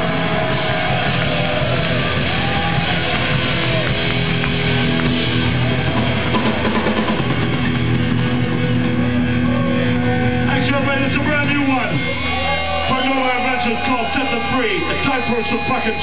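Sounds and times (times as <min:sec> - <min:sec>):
drum kit: 0:00.0 - 0:13.0
bass guitar: 0:00.0 - 0:16.0
distorted electric guitar: 0:00.0 - 0:16.0.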